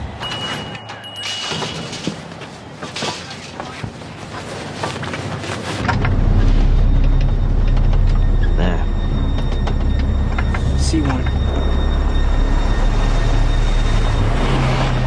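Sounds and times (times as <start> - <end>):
quiet street noise: 0.0 - 15.0.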